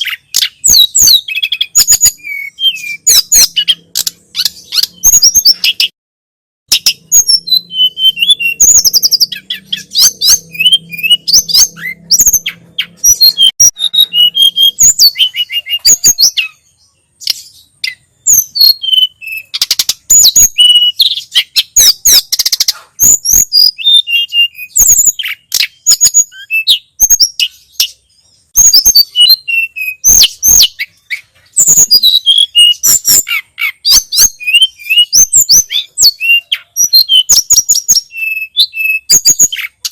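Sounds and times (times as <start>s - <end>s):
songbird chattering and whistling: 0.0s - 5.9s, 6.7s - 39.9s.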